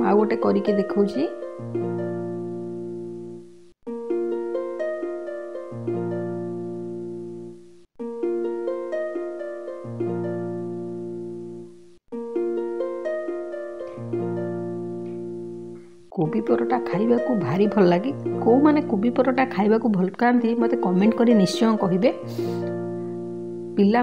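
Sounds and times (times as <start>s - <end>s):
plucked string melody: 0.0s - 24.0s.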